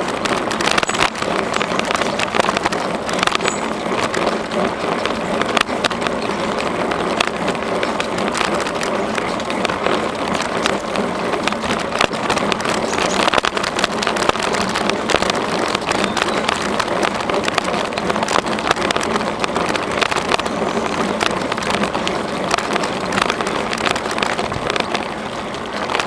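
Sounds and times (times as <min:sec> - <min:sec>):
bicycle clicks and rattles: 0:00.0 - 0:26.0
bicycle tyres on path: 0:00.0 - 0:26.0.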